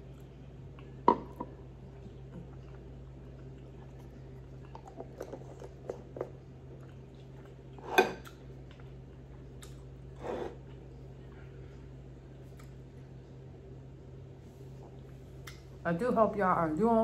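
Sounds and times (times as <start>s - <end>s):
person chewing with wet clicks: 0.0s - 13.4s, 14.8s - 15.8s
low steady hum: 0.0s - 17.0s.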